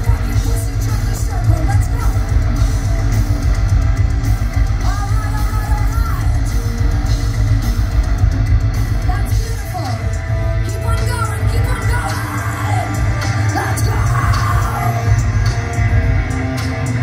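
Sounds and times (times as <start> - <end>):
distorted electric guitars: 0.0 - 17.0
rapid kick drum beat: 0.0 - 17.0.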